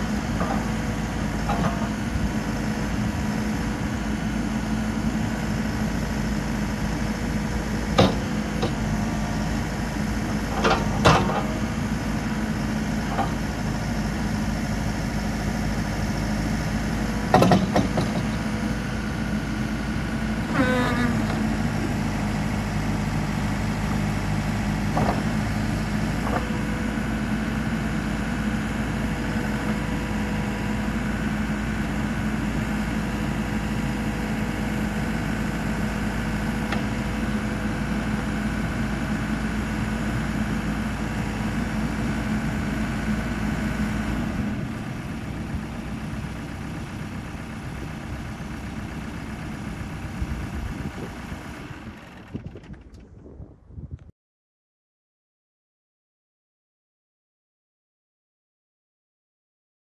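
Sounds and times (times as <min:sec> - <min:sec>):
diesel engine running: 0:00.0 - 0:53.6.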